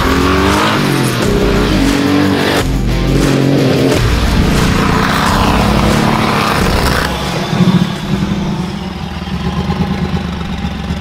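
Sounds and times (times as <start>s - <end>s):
rally car engine running: 0.0s - 11.0s.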